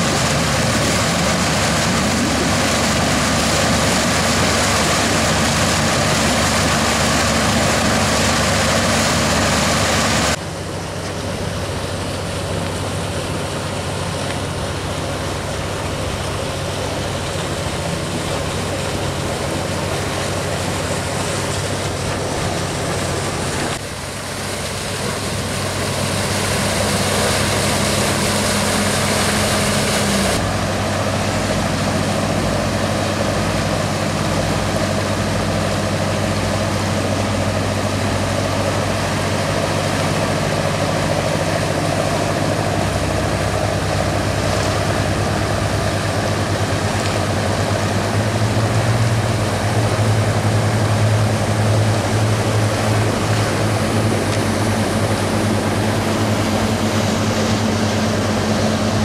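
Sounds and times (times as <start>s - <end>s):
boat engines running: 0.0s - 59.0s
water rushing past hull: 0.0s - 59.0s.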